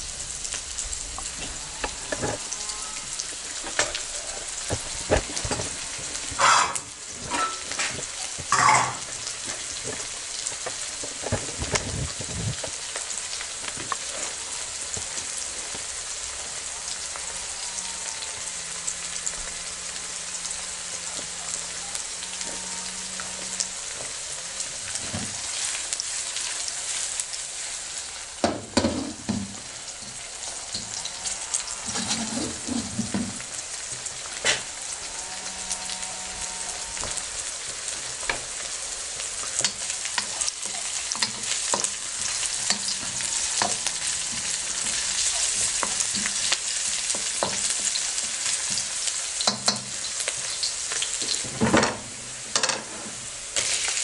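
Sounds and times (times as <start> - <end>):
onions sizzling in hot oil: 0.0 - 54.0.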